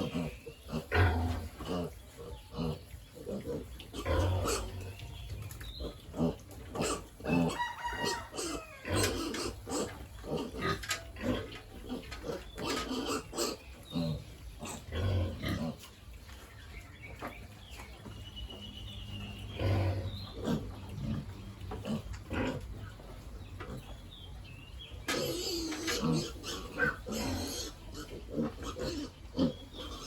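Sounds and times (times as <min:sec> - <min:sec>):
pigs grunting: 0:00.0 - 0:16.1, 0:19.4 - 0:24.3, 0:25.0 - 0:30.0.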